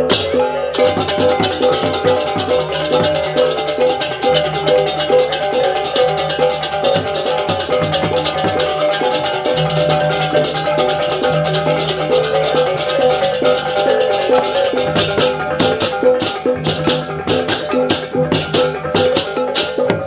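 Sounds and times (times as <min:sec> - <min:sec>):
metallic percussion music: 0:00.0 - 0:20.0.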